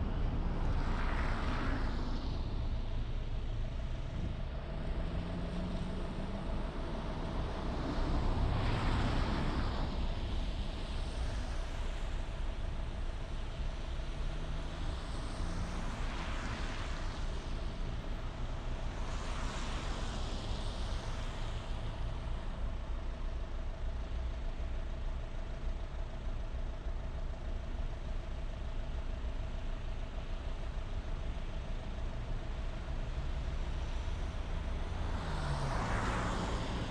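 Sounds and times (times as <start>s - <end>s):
vehicle engine and tyre rumble: 0.0s - 36.9s.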